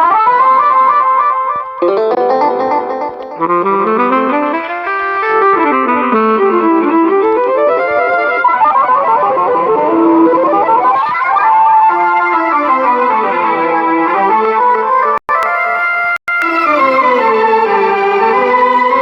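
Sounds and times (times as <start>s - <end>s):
electronic keyboard melody: 0.6s - 19.0s.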